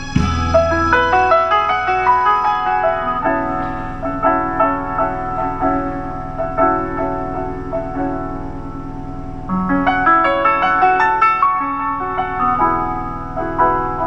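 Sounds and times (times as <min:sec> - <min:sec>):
slow piano playing: 0:00.0 - 0:14.0.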